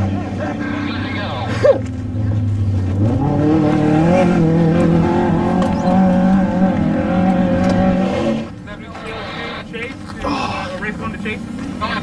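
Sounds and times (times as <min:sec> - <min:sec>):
race vehicle engine at high revs: 0:00.0 - 0:12.0.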